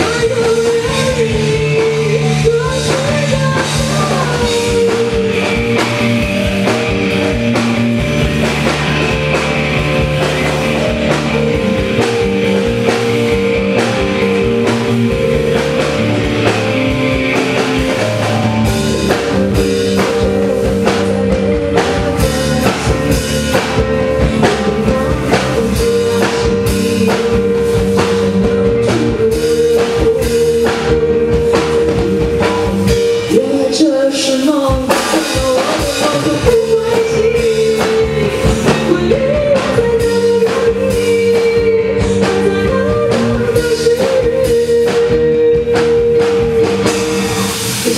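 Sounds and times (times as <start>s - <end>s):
drum kit beat: 0.0s - 47.9s
live rock band playing: 0.0s - 47.9s.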